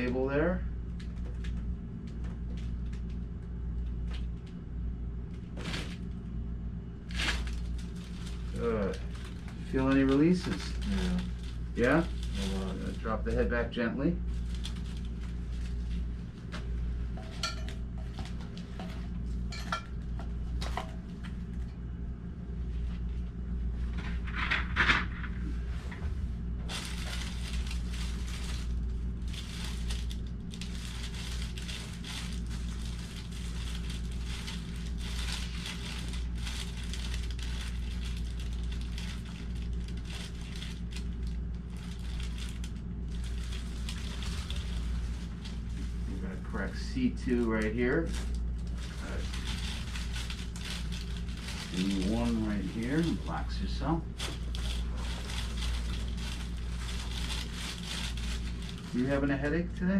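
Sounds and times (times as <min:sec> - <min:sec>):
steady low hum: 0:00.0 - 0:59.9
crinkling rustling handling noise: 0:00.9 - 0:04.6, 0:05.2 - 0:06.3, 0:07.0 - 0:21.8, 0:22.5 - 0:59.9.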